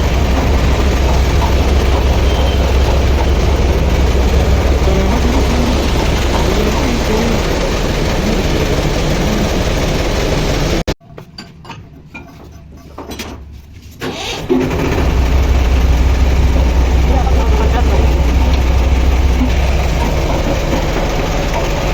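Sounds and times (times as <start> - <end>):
scattered knocks: 0.0 - 10.9, 14.7 - 21.9
lathe machining: 0.0 - 11.0, 14.0 - 21.9.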